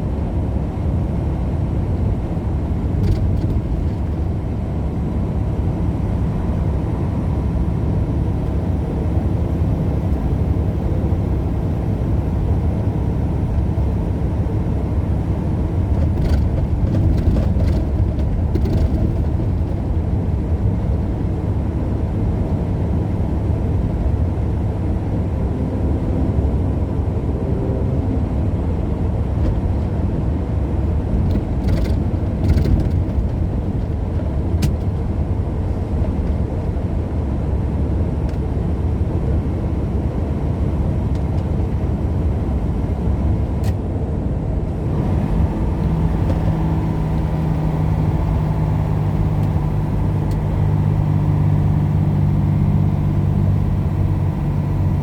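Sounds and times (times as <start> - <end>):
truck engine and tyres droning: 0.0 - 55.0.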